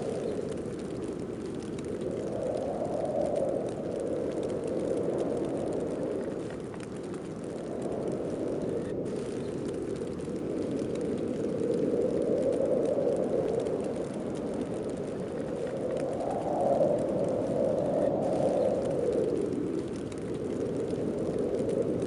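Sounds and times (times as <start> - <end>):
snowstorm wind rushing: 0.0 - 22.0.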